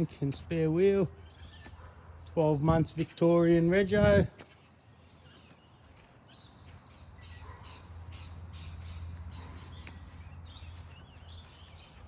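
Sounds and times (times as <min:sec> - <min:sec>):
birds squawking and chattering: 0:00.0 - 0:12.0.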